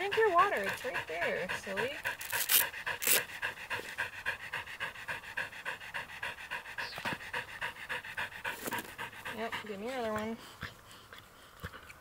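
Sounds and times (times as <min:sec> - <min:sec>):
dog panting rapidly: 0:00.0 - 0:12.0.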